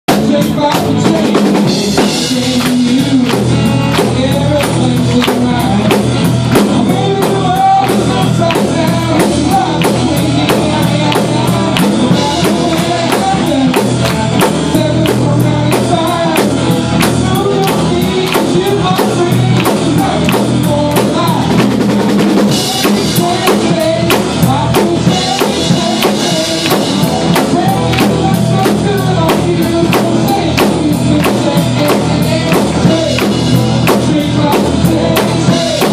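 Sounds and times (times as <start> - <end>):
drum kit fast beat: 0.0 - 35.9
live pop-rock band playing: 0.1 - 35.9.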